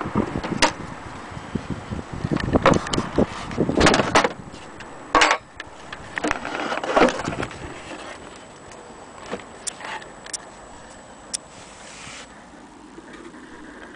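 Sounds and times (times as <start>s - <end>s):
steady background hiss: 0.0s - 13.9s.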